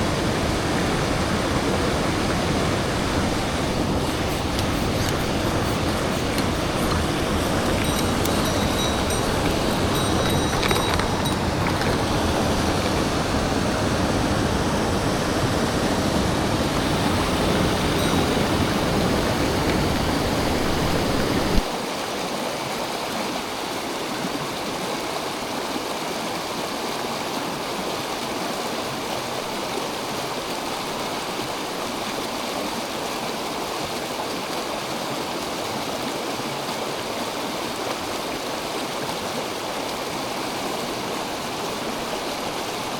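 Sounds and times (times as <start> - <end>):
stream water rushing over rocks: 0.0 - 42.9.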